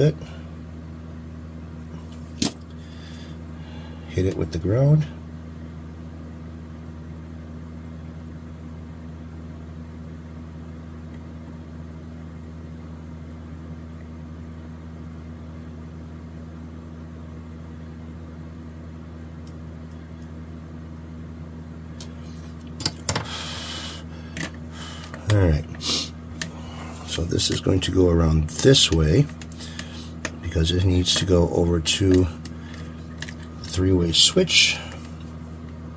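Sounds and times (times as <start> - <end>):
low room hum: 0.0 - 35.9.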